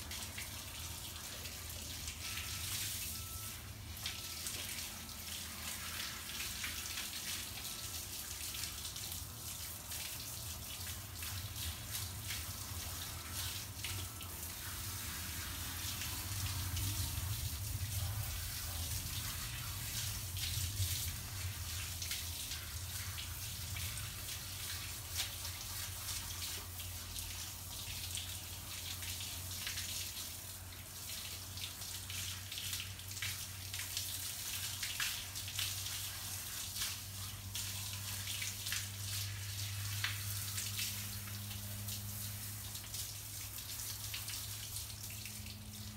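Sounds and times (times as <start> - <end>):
low steady hum: 0.0 - 45.9
water from hose splashing: 0.0 - 45.9.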